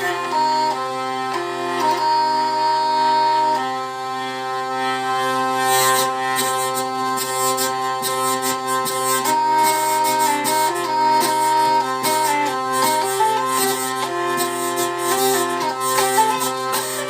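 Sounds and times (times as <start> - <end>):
folk drone instrument melody: 0.0 - 17.0
rapid rhythmic buzzing: 0.0 - 17.0.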